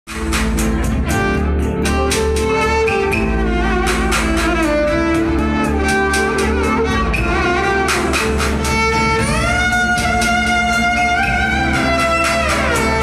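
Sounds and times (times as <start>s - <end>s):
backing track with beat and bass: 0.1s - 13.0s
violin melody: 0.1s - 13.0s.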